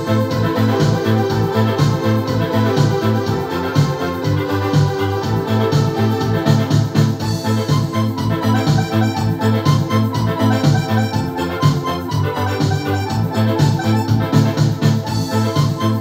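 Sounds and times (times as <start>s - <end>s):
keyboard piece with bass line: 0.0s - 16.0s.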